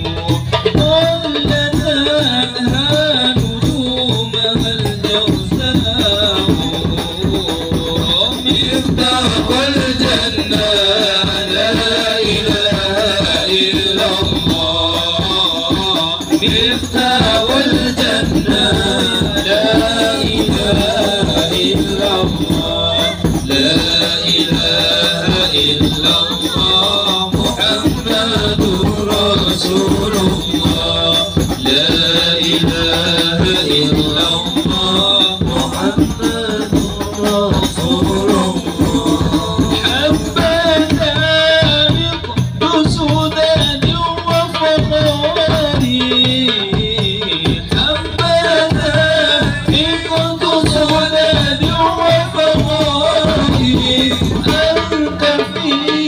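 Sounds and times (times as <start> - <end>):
men singing together: 0.0 - 56.0
percussion rhythm: 0.0 - 56.0.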